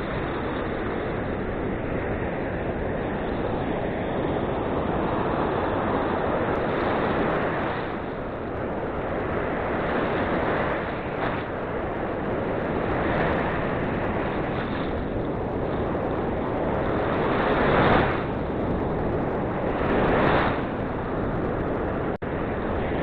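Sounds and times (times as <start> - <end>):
surf breaking on shore: 0.0 - 23.0
wind on microphone: 0.0 - 23.0.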